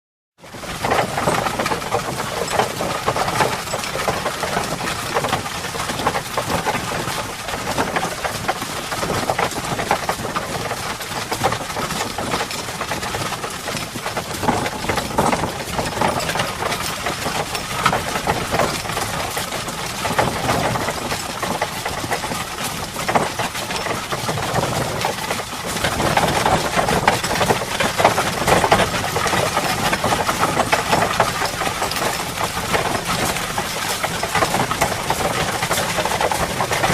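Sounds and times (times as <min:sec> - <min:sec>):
cart rattling: 0:00.4 - 0:36.9
hooves clattering: 0:00.5 - 0:36.9.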